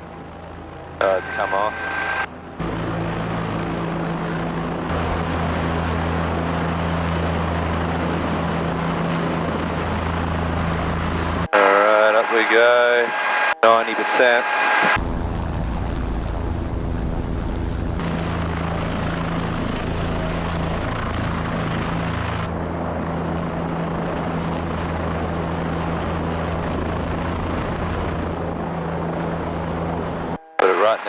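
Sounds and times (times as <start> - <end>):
helicopter running at high power: 0.0 - 12.6, 15.0 - 30.8.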